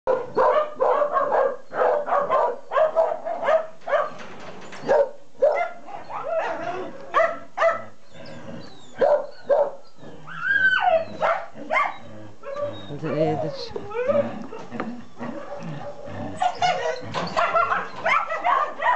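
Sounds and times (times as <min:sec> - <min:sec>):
dogs barking and yipping: 0:00.1 - 0:18.9.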